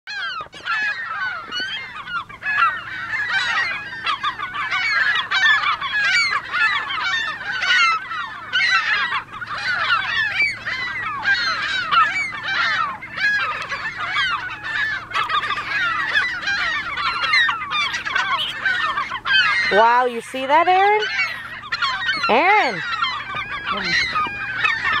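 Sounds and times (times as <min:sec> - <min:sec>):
gulls calling: 0:00.1 - 0:25.0.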